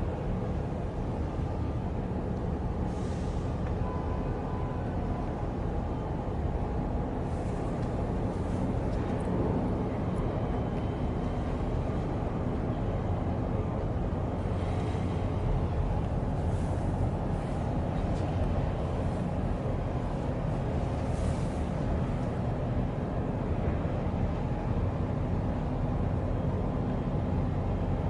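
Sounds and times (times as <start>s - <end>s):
ship engines rumbling: 0.0s - 28.0s.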